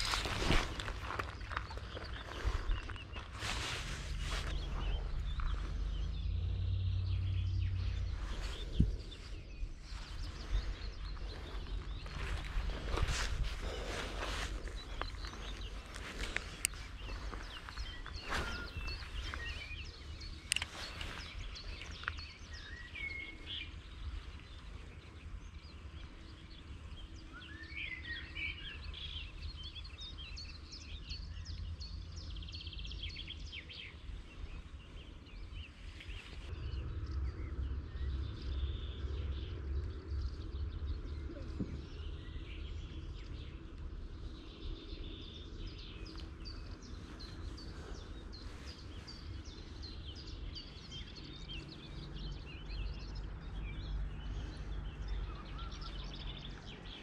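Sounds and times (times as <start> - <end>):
low rumble: 0.0 - 27.4, 31.0 - 57.0
small birds chirping: 0.0 - 57.0.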